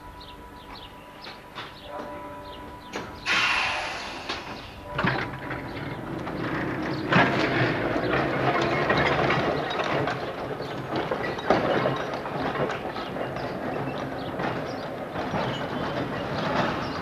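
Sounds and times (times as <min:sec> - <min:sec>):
tram rumbling on rails: 0:00.0 - 0:17.0
wheels clicking over rail joints: 0:02.9 - 0:17.0.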